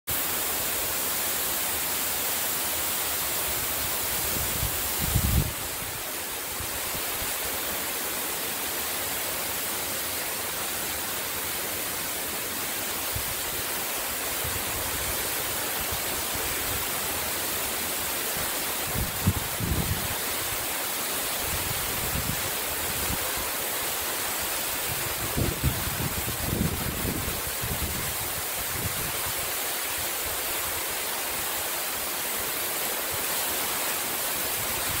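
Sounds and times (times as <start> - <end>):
waterfall rushing: 0.1 - 35.0.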